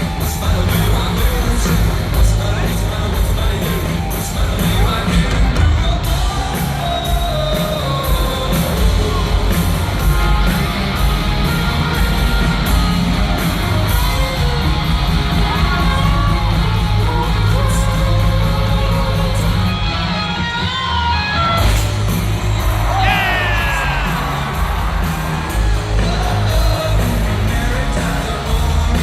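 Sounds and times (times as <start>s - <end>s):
rock band playing live: 0.0s - 29.0s
singing and yells: 0.0s - 29.0s.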